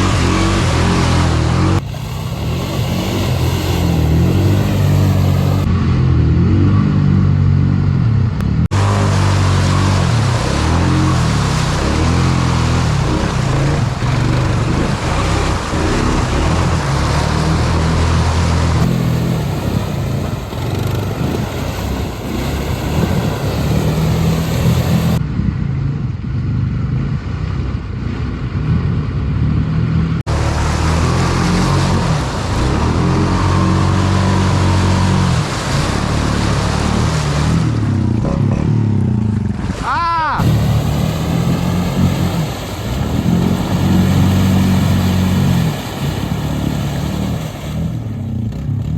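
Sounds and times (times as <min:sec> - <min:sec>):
quad bike engine revving: 0:00.0 - 0:25.3, 0:26.6 - 0:48.9.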